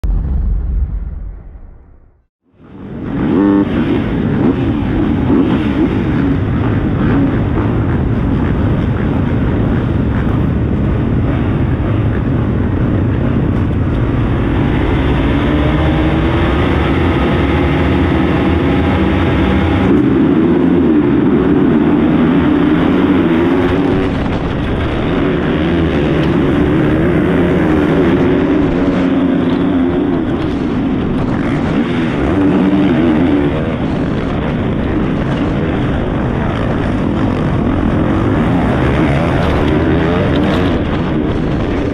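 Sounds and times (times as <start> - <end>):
motocross bike engine revving: 2.9 - 41.9.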